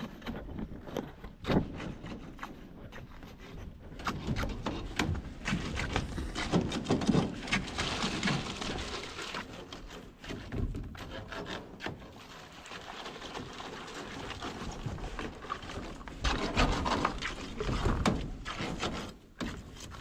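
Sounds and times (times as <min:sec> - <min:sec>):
knocks and scraping on wood: 0:00.0 - 0:20.0.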